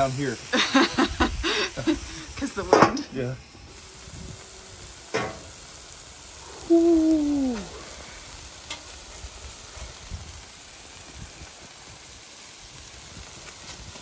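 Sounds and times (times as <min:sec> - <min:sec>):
burger patties sizzling on griddle: 0:00.0 - 0:14.0.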